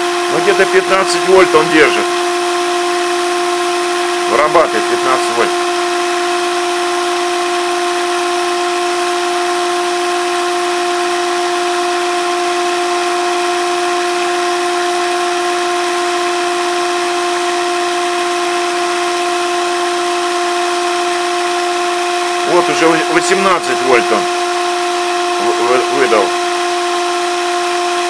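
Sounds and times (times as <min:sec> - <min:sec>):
cordless drill whining: 0:00.0 - 0:28.0.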